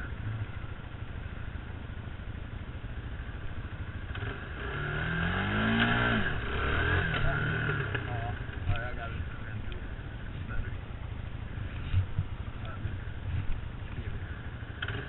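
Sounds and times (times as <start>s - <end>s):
atv engine running and revving: 0.0s - 15.0s.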